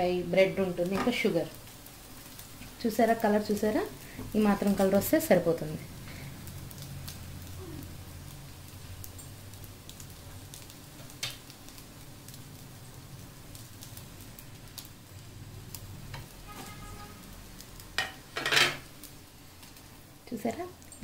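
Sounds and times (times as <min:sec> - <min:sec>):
bread sizzling in a pan: 0:00.0 - 0:21.0.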